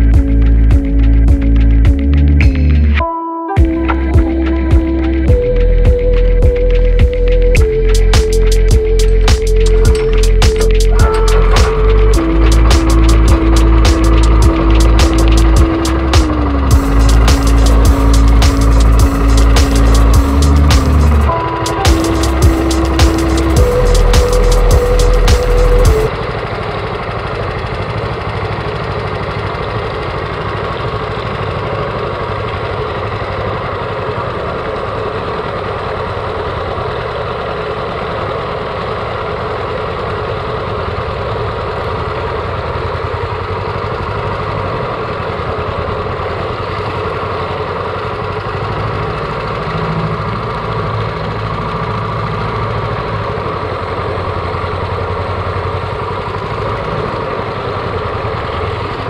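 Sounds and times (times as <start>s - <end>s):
boat motor running steadily: 3.6s - 59.0s.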